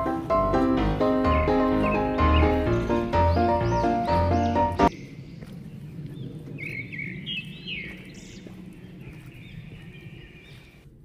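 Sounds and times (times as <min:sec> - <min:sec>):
forest birds chirping: 0:00.0 - 0:10.9
footsteps on gravel path: 0:00.0 - 0:11.0.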